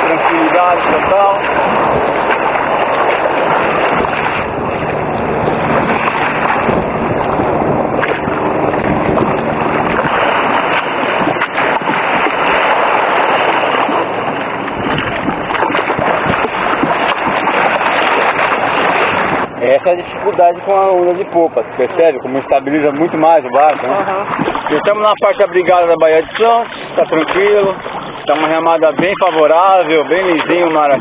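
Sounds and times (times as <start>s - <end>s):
paddle blades splashing: 0.0s - 31.0s
water splashing against kayak hull: 0.0s - 31.0s.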